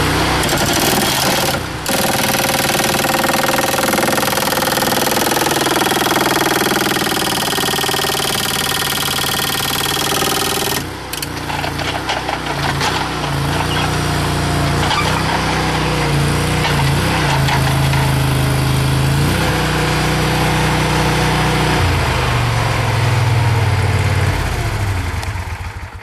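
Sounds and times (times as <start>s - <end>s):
skid steer engine running: 0.0s - 26.0s.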